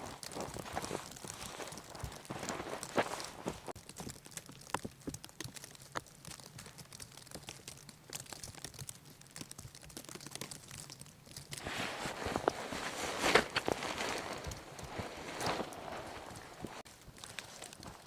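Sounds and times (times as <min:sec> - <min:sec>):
crinkling rustles: 0:00.0 - 0:18.0.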